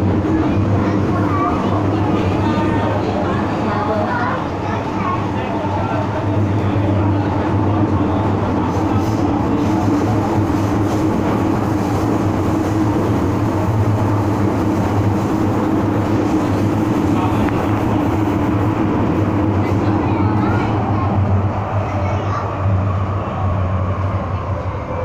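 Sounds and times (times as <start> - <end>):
metro train rumbling: 0.0 - 25.0.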